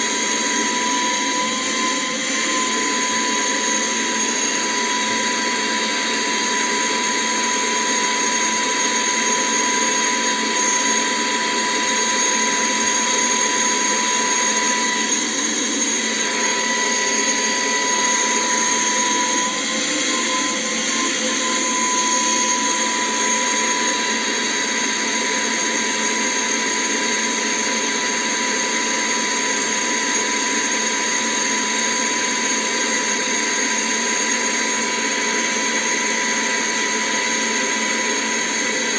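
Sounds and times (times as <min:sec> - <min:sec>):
handheld vacuum cleaner running: 0:00.0 - 0:38.9.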